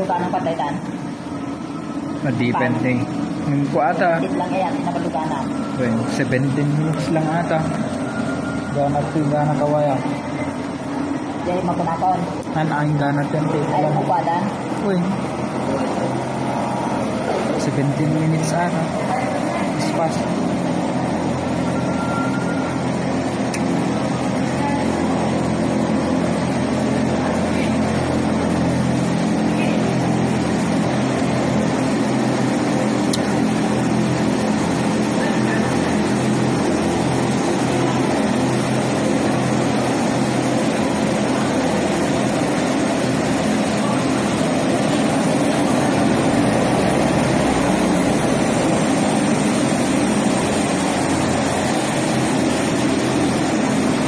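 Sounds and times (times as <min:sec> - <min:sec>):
faint high whine: 0:00.0 - 0:54.0
turboprop engines running: 0:00.0 - 0:54.0.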